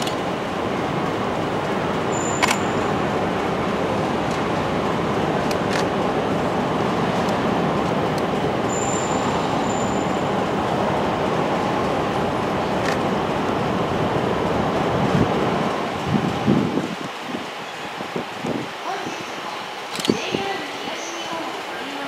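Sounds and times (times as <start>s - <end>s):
electric train approaching: 0.0s - 22.0s.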